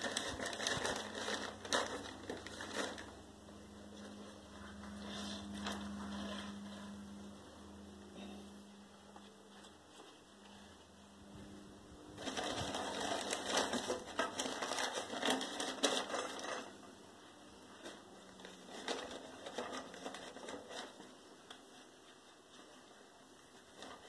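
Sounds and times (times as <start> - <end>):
paper crinkling and rustling: 0.0 - 7.4, 12.0 - 24.0.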